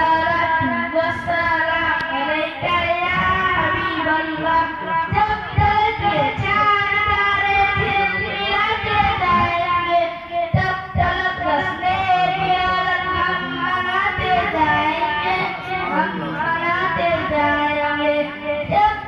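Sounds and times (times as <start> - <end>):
boy singing into a microphone: 0.0 - 19.0.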